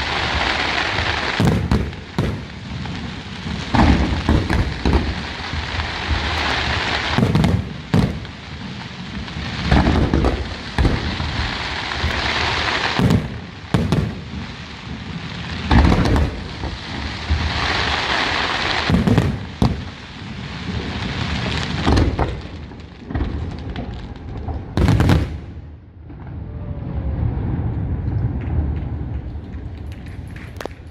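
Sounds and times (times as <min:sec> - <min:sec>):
fireworks crackling hiss: 0:00.0 - 0:25.6
fireworks booming: 0:00.0 - 0:30.9.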